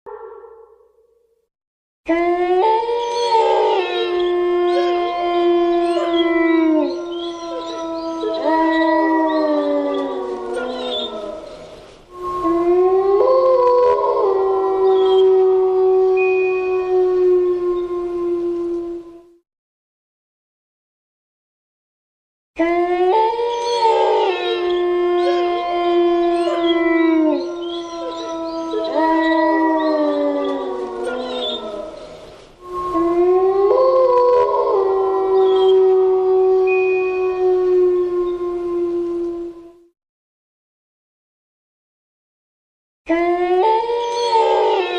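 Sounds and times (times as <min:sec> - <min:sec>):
wolves howling in chorus: 0:02.1 - 0:19.2, 0:22.6 - 0:39.8, 0:43.1 - 0:44.9.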